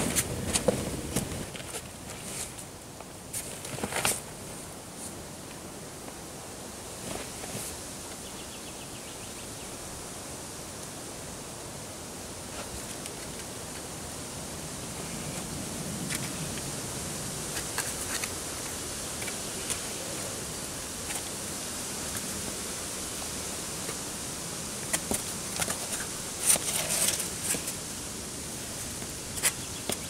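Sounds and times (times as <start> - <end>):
outdoor background hiss: 0.0 - 30.0.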